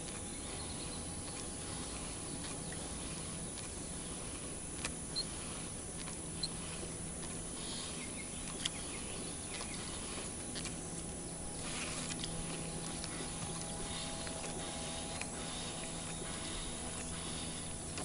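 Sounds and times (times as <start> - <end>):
soft hiss of water and air: 0.0 - 18.0
steady low hum: 0.0 - 18.0.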